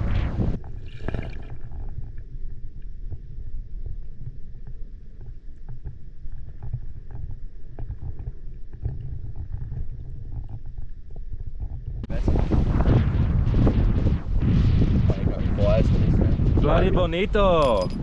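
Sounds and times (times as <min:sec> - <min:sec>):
muffled underwater water rumble: 0:00.0 - 0:18.0
faint clicks and crackles: 0:00.1 - 0:18.0.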